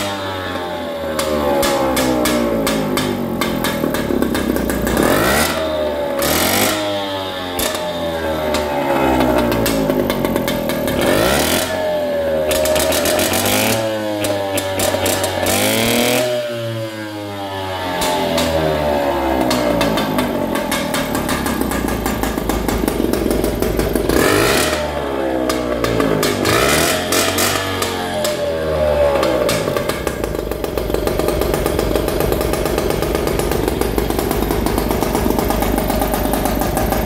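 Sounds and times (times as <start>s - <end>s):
moped engine revving: 0.0s - 37.0s.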